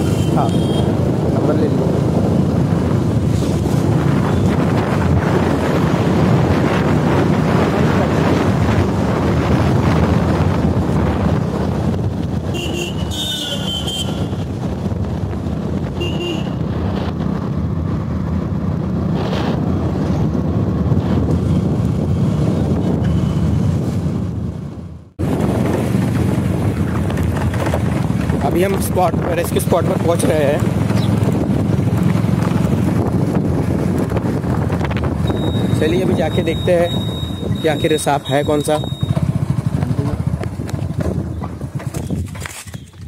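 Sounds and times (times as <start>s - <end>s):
wind buffeting microphone: 0.0s - 38.2s, 38.8s - 43.0s
motorbike riding on road: 0.0s - 43.0s.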